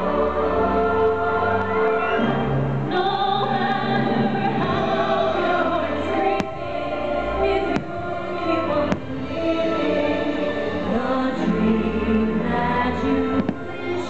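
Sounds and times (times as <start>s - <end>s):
orchestral music with choir: 0.0s - 14.0s.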